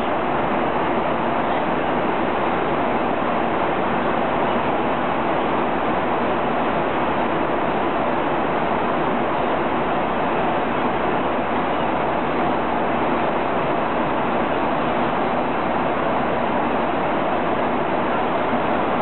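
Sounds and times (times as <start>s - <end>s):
airliner cabin noise in flight: 0.0s - 19.0s.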